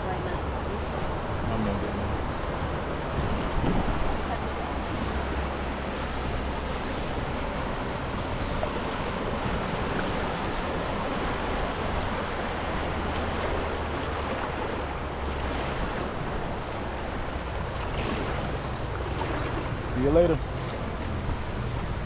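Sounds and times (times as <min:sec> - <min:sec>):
river water rushing: 0:00.0 - 0:22.0
wind rumbling on microphone: 0:00.0 - 0:22.0.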